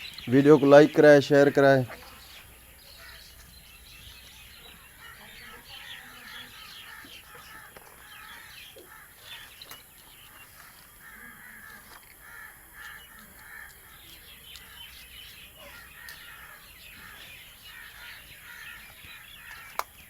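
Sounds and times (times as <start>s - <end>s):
birds chirping faintly: 0.0s - 20.0s
crows cawing: 0.4s - 3.5s, 4.5s - 9.6s, 10.3s - 20.0s.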